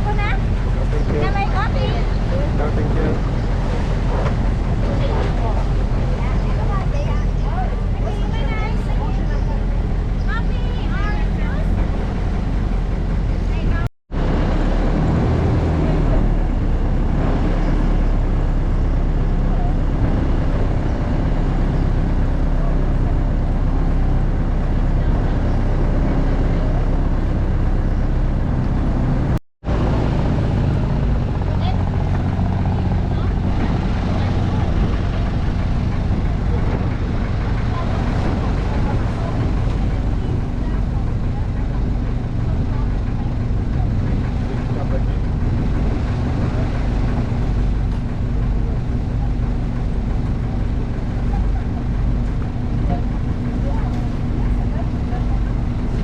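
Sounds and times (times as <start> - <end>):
motorboat engine running: 0.0 - 56.0
water: 0.0 - 56.0
wind: 0.0 - 56.0.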